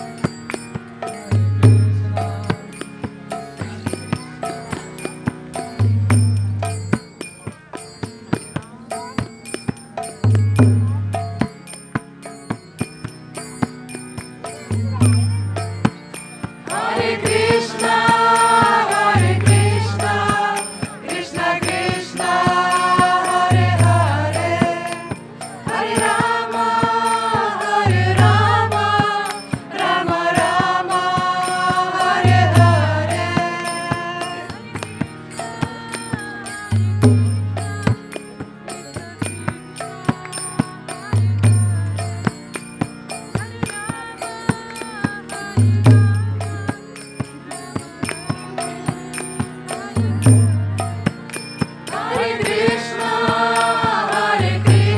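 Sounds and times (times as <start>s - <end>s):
steady percussion: 0.0s - 54.9s
voices chanting a devotional melody: 0.0s - 54.9s.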